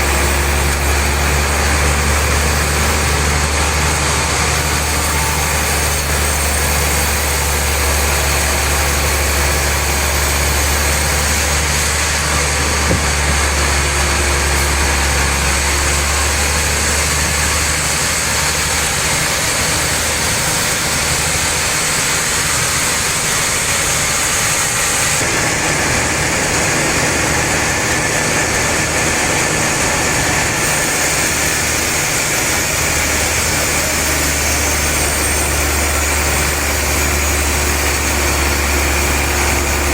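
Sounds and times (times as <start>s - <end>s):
sawmill saw machinery humming: 0.0s - 39.9s.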